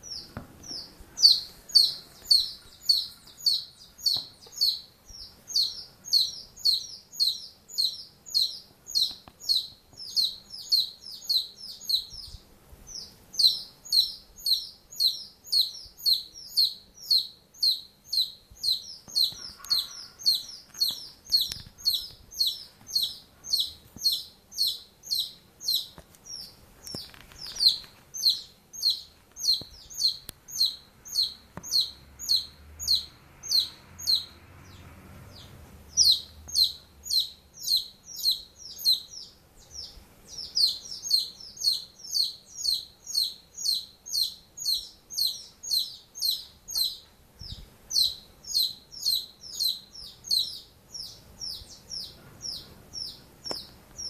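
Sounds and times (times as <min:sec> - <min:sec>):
small bird chirping rapidly: 0:00.0 - 0:54.0.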